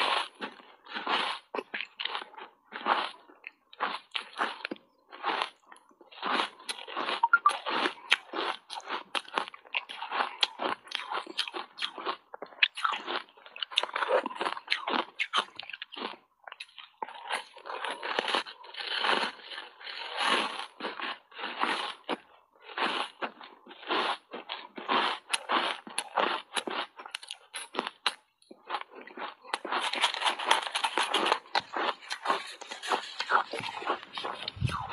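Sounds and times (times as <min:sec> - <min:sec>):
ice crunching between teeth: 0:00.0 - 0:34.9.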